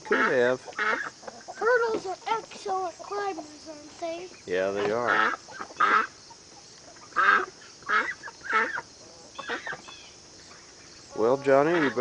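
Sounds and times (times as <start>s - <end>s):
poultry calling: 0.0s - 3.6s, 4.2s - 12.0s.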